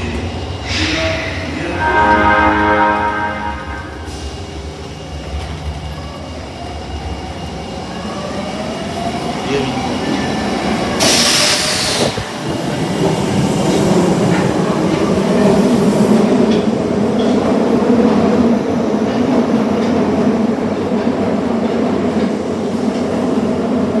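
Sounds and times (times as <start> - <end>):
subway car low hum: 0.0 - 24.0.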